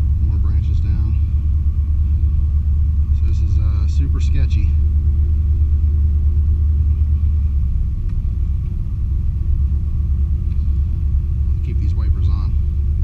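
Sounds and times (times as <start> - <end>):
pickup truck engine rumbling: 0.0 - 13.0.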